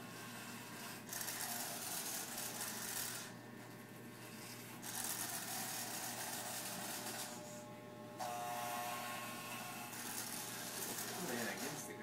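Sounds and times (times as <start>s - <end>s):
clippers cutting hair: 0.7s - 3.4s, 4.2s - 7.6s, 8.2s - 12.0s
electric hair clippers buzzing: 1.1s - 3.4s, 4.4s - 12.0s.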